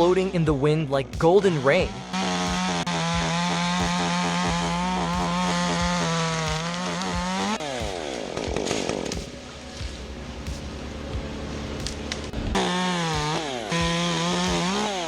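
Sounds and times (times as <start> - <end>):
chainsaw running at high revs: 1.2 - 15.0.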